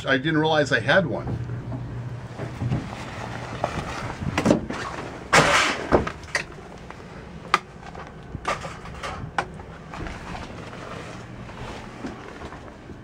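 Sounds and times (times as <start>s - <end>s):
low steady cabin hum: 0.0s - 13.0s.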